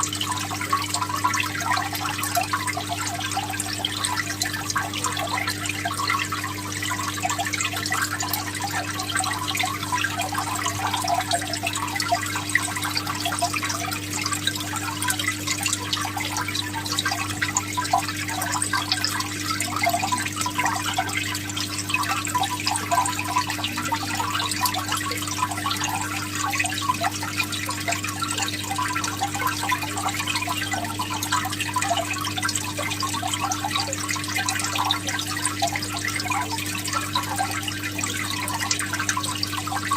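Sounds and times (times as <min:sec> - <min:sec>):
aquarium water trickling and bubbling: 0:00.0 - 0:39.9
low pump hum: 0:00.0 - 0:39.9.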